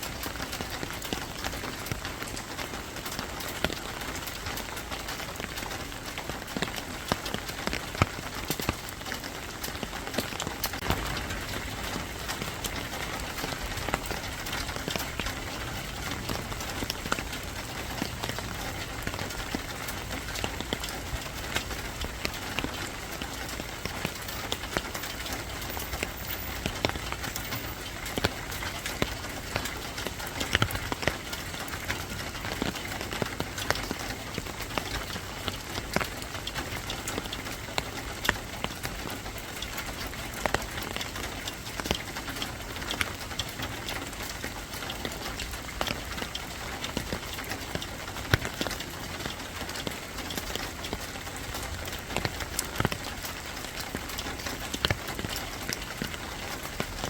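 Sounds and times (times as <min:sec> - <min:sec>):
sharp raindrop ticks: 0:00.0 - 0:57.0
steady rain falling: 0:00.0 - 0:57.0.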